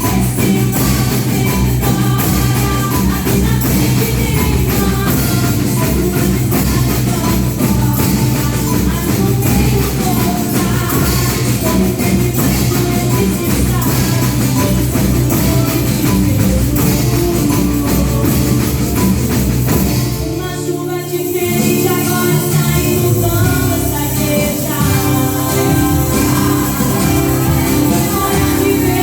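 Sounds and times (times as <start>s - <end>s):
drums: 0.0s - 29.0s
held chords: 0.0s - 29.0s
percussion band worship music: 0.0s - 29.0s
tambourine: 0.0s - 29.0s.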